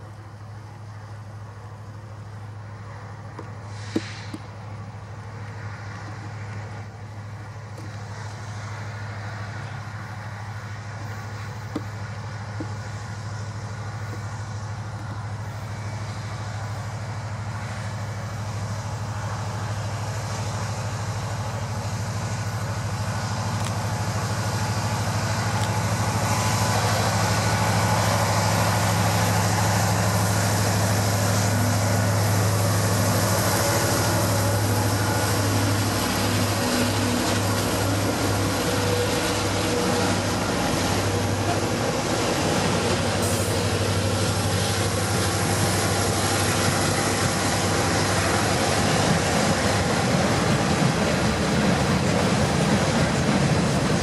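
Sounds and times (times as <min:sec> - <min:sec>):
diesel locomotive engine drone: 0:00.0 - 0:54.0
train wheels on rails: 0:00.0 - 0:54.0.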